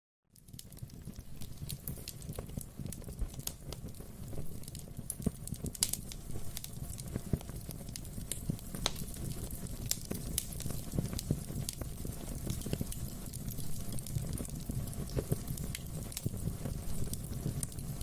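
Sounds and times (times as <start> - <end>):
wood fire crackling: 0.4 - 18.0.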